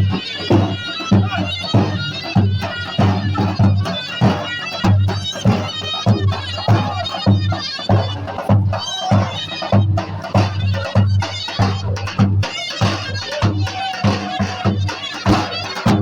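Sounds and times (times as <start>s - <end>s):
reed pipe melody: 0.0s - 16.0s.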